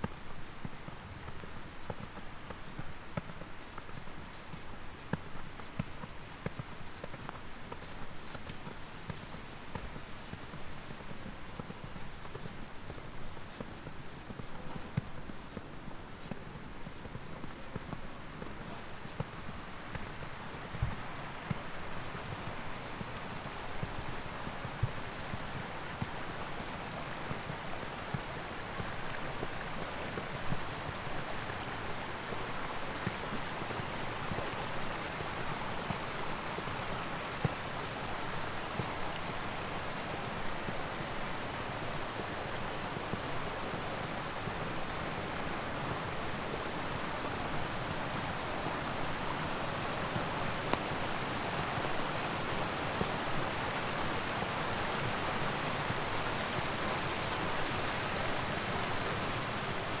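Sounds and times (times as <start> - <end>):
running water rushing: 0.0 - 60.0.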